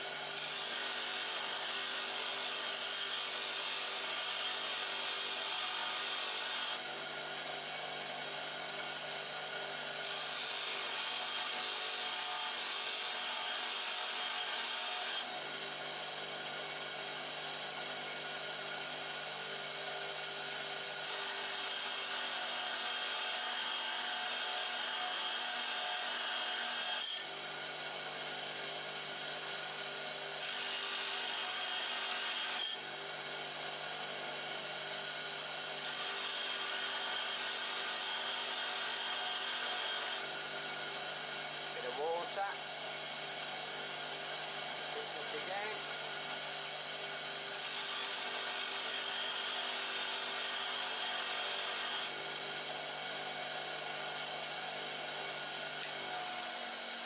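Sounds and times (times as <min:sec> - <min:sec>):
bench grinder motor hum: 0:00.0 - 0:57.0.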